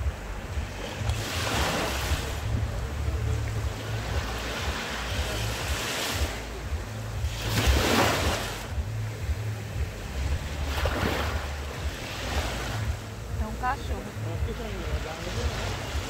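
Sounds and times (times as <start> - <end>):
small waves breaking on sand: 0.0 - 16.0
wind rumble on microphone: 0.0 - 16.0.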